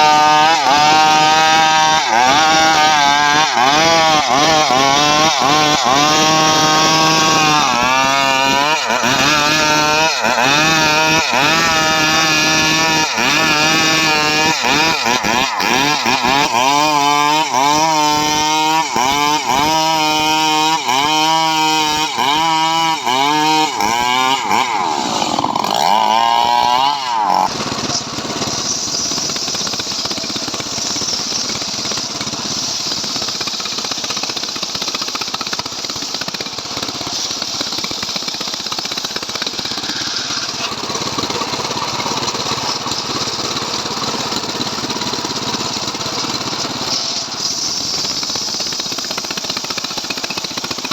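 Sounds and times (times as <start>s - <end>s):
chainsaw engine revving: 0.0s - 50.9s.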